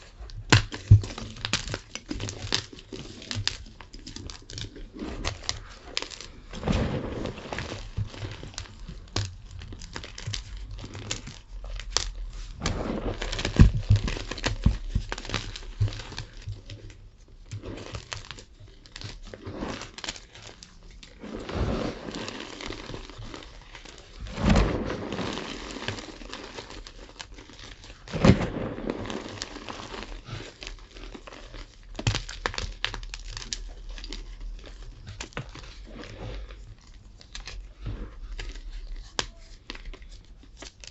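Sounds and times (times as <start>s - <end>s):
chalk crunching and crackling: 0.0s - 40.9s.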